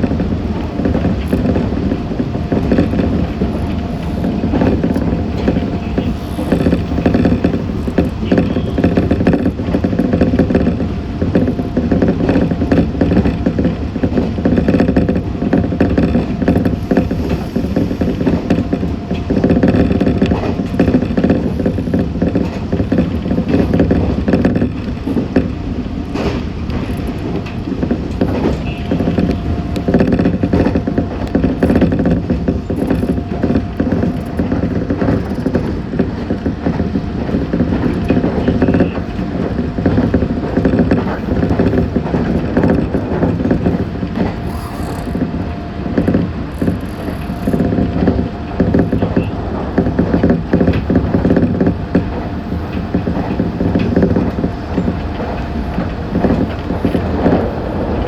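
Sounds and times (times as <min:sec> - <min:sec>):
train car clattering: 0:00.0 - 0:58.0
train motors humming: 0:00.0 - 0:58.0
train wheels rumbling on rails: 0:00.0 - 0:58.0.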